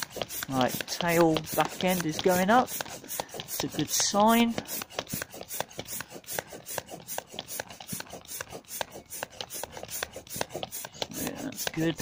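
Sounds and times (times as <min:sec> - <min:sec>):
manual air pump strokes: 0:00.0 - 0:12.0.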